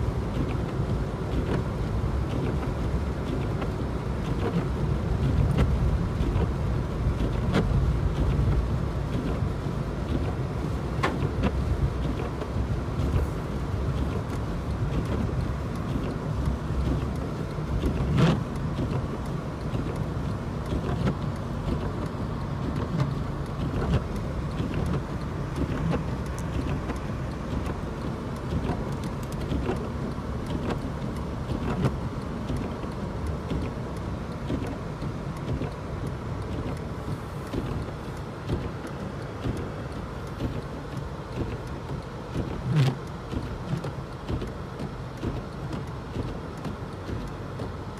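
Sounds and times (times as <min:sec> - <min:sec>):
car driving on slushy road: 0:00.0 - 0:47.9.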